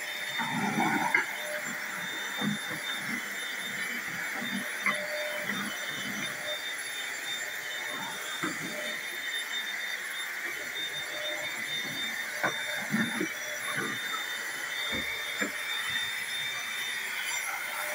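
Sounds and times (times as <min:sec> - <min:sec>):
vacuum cleaner motor whine: 0:00.0 - 0:17.9.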